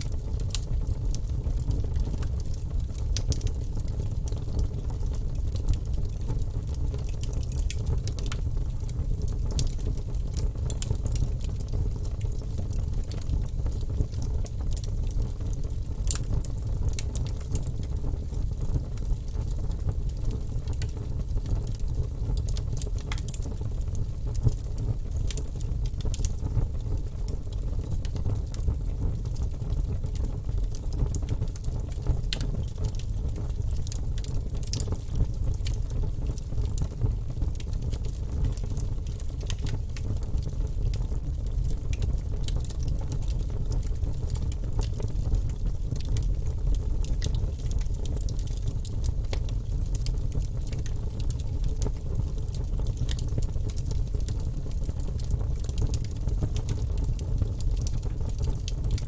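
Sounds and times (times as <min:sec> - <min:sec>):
low rumble of fire: 0:00.0 - 0:59.0
wood fire crackling and popping: 0:00.0 - 0:59.0.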